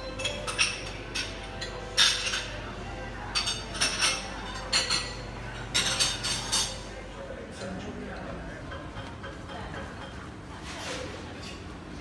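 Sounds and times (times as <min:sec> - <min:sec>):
crockery and cutlery clinking: 0:00.0 - 0:11.7.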